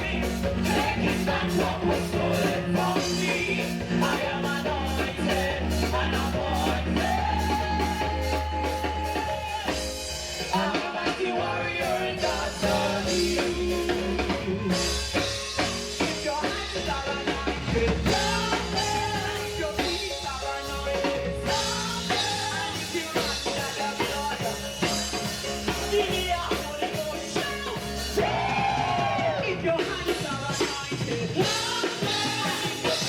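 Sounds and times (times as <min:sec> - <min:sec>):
people singing: 0:00.0 - 0:15.2, 0:15.9 - 0:33.0
gospel band playing: 0:00.0 - 0:33.0.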